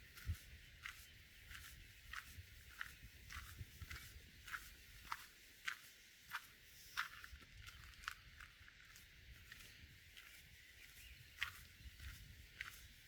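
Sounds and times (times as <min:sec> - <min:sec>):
footsteps on bush track: 0:00.0 - 0:13.0.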